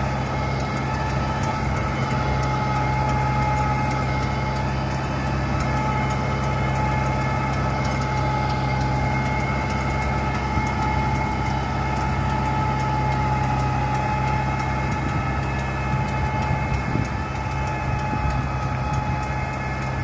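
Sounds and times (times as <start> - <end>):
steady whine: 0.0 - 20.0
tractor diesel engine running: 0.0 - 20.0.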